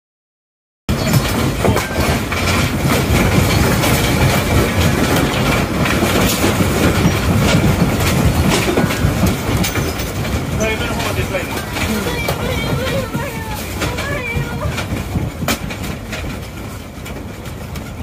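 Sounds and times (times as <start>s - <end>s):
earthquake rumble: 0.9s - 18.0s
furniture rattling and clattering: 0.9s - 18.0s.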